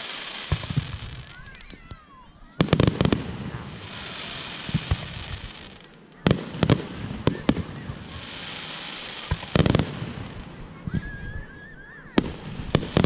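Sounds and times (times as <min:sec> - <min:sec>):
firework bangs: 0:00.0 - 0:11.5, 0:12.1 - 0:13.0
hissing crackle of fireworks: 0:00.0 - 0:13.0.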